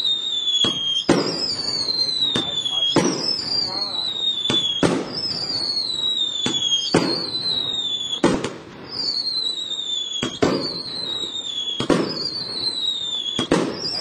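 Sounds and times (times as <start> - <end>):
firework bangs: 0.0 - 14.0
firework whistles: 0.0 - 14.0.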